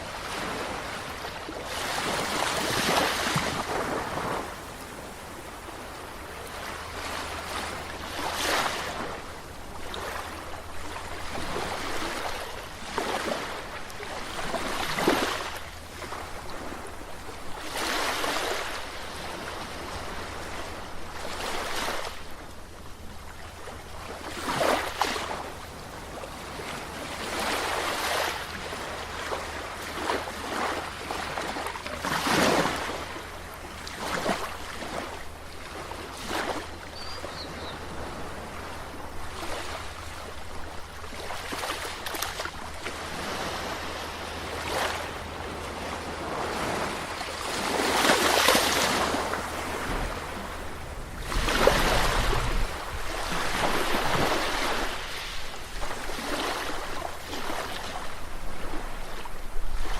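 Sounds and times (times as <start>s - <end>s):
sea waves washing in: 0.0s - 59.9s.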